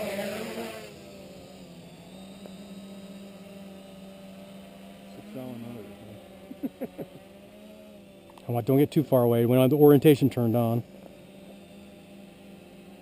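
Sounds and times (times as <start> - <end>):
quadcopter droning hum: 0.0 - 13.0.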